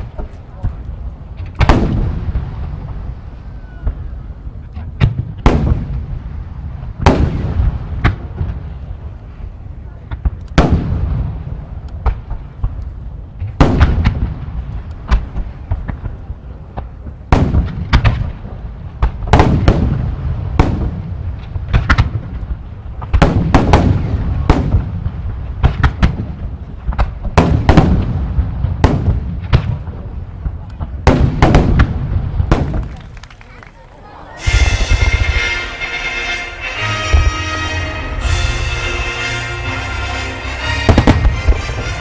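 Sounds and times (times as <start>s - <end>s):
fireworks booming: 0.0s - 9.2s, 10.1s - 12.8s, 13.4s - 33.5s, 34.2s - 42.0s.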